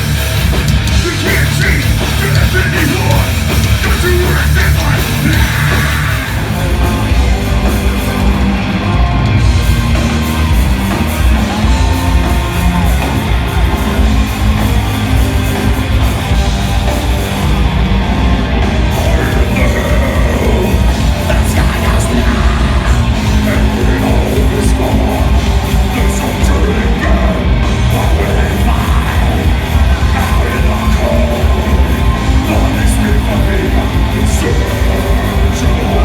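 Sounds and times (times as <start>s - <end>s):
guitars: 0.0s - 36.0s
heavy drums: 0.0s - 36.0s
live heavy metal band playing: 0.0s - 36.0s.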